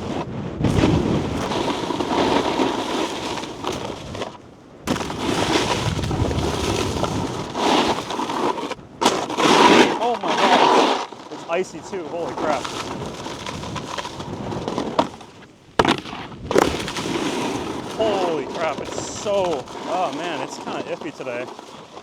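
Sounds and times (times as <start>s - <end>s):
snowboard scraping over icy snow: 0.0s - 22.0s.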